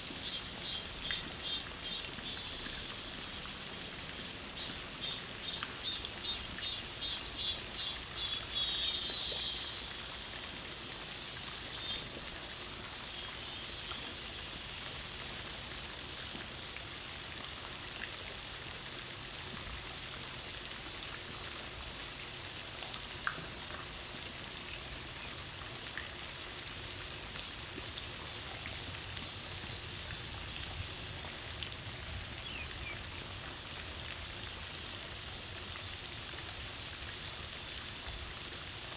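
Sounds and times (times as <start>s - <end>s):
insects buzzing: 0.0s - 16.3s, 20.4s - 25.8s, 26.4s - 31.4s, 34.2s - 38.9s.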